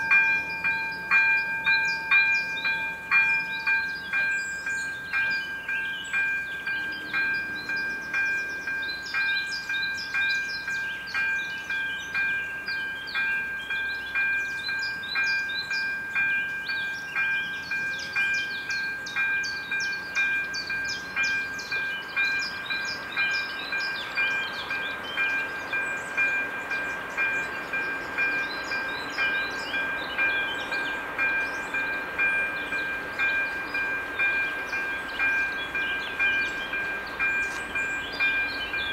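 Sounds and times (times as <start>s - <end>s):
level crossing bell ringing: 0.0s - 38.9s.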